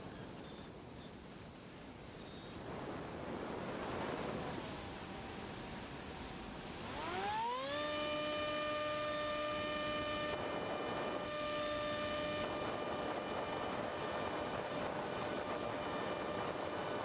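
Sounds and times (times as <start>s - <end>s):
model plane electric motor whining: 2.1s - 17.0s.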